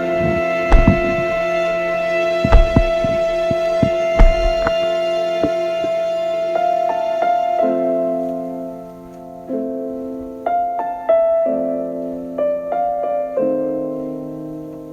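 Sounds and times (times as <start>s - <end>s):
slow piano music: 0.0s - 14.9s.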